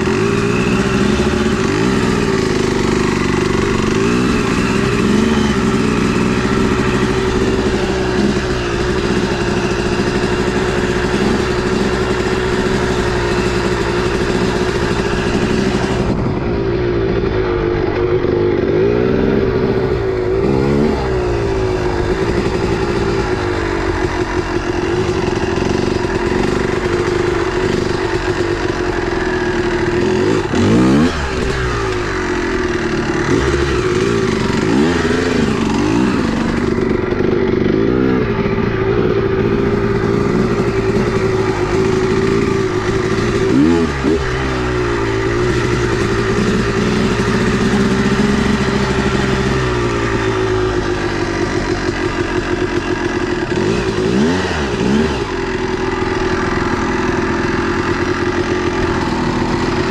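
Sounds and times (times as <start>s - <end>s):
two-stroke motorcycle revving: 0.0s - 59.9s.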